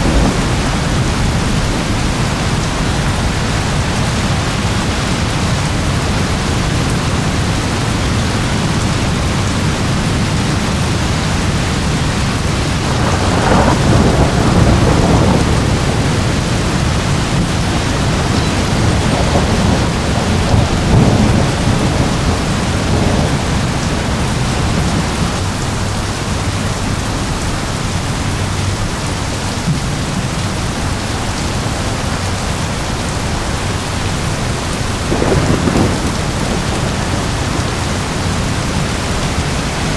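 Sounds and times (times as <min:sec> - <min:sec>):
rolling thunder: 0:00.0 - 0:27.4, 0:28.2 - 0:39.9
heavy rain: 0:00.0 - 0:39.9.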